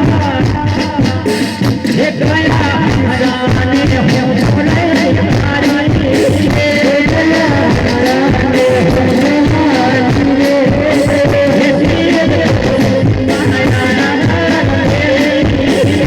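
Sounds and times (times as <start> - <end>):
instrumental accompaniment with percussion: 0.0 - 16.0.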